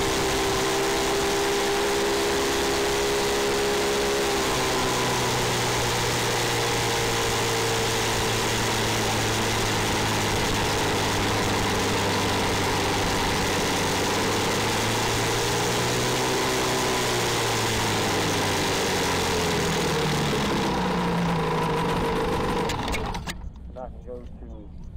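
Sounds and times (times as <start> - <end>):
race car engine at low revs: 0.0 - 24.9.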